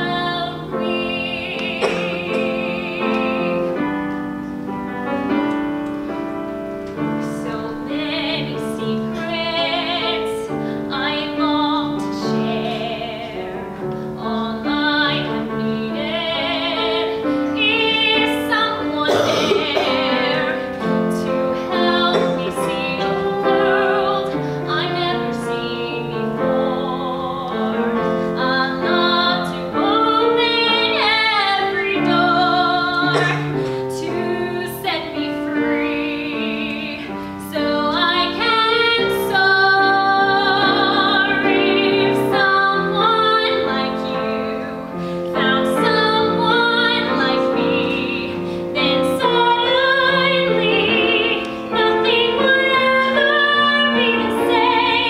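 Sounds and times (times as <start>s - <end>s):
woman singing operatically: 0.0s - 3.7s, 7.2s - 13.6s, 14.2s - 27.8s, 28.4s - 44.8s, 45.4s - 55.0s
piano accompaniment: 0.0s - 55.0s.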